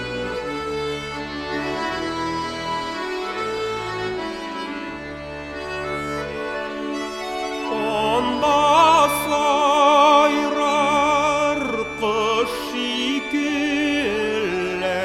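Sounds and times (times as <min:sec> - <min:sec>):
accordion playing chords: 0:00.0 - 0:15.0.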